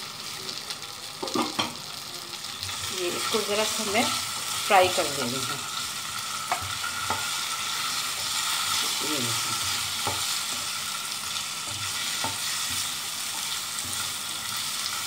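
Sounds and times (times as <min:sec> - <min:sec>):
chillies sizzling in oil: 0:00.0 - 0:15.0.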